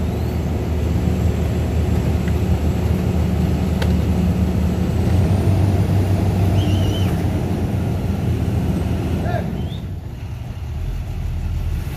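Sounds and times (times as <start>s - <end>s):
garbage truck diesel engine: 0.0s - 11.9s.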